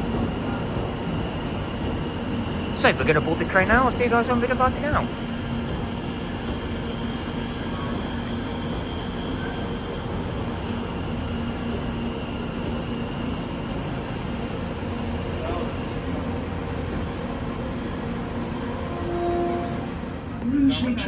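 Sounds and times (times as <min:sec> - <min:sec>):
electric train humming: 0:00.0 - 0:21.0.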